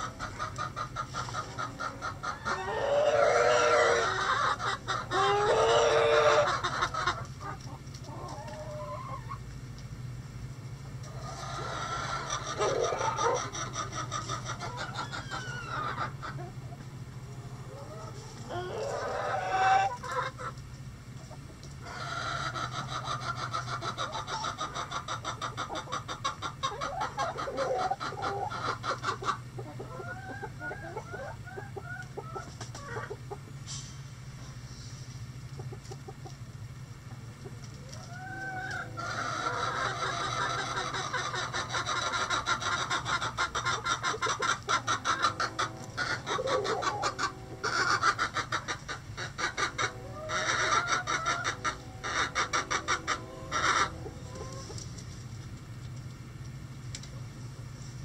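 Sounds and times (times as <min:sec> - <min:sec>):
hens clucking and calling: 0:00.0 - 0:58.0
steady low hum: 0:00.0 - 0:58.0.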